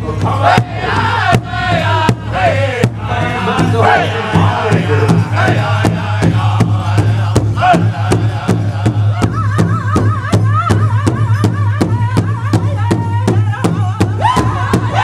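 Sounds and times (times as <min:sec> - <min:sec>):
men chanting in high voices: 0:00.0 - 0:10.4, 0:12.2 - 0:15.0
large drum steady beat: 0:00.0 - 0:15.0.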